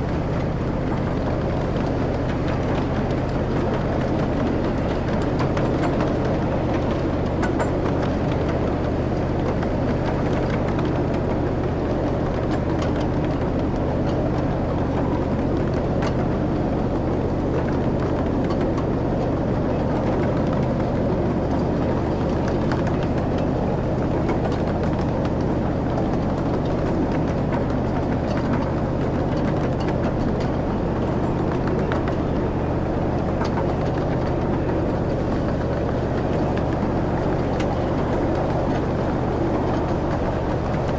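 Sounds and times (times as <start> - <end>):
low steady hum: 0.0 - 40.9
train rumbling on track: 0.0 - 40.9.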